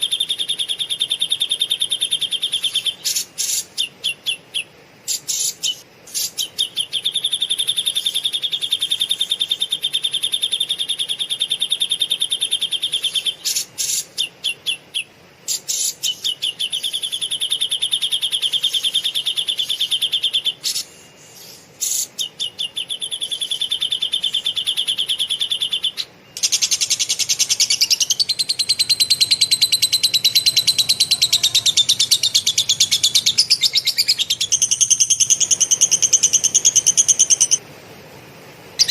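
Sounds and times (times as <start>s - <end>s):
bird chattering: 0.0s - 37.6s
bird trilling: 0.0s - 37.6s.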